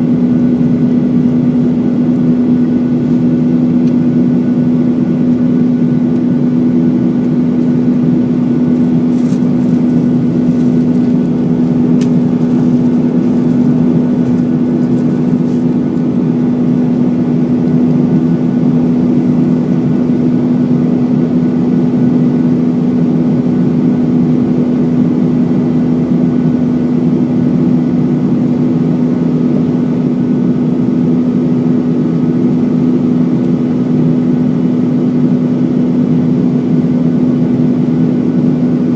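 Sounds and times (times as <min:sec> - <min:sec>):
jet airliner cabin drone: 0:00.0 - 0:38.9.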